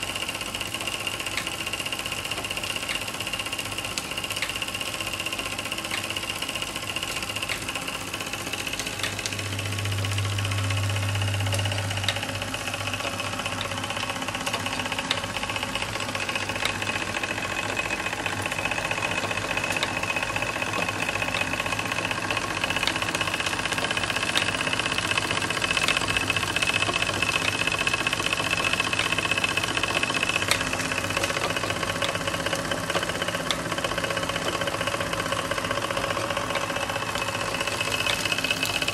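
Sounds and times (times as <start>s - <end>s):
light ticking of toy machines: 0.0s - 38.9s
toy steam engine running: 0.0s - 38.9s.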